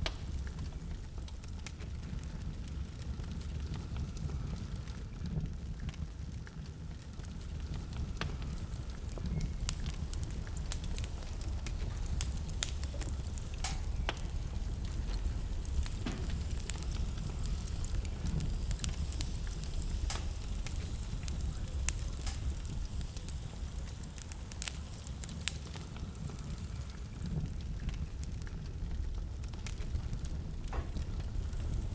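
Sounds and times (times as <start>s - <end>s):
fire crackling and popping: 0.0s - 31.9s
low rumble of flames: 0.0s - 31.9s.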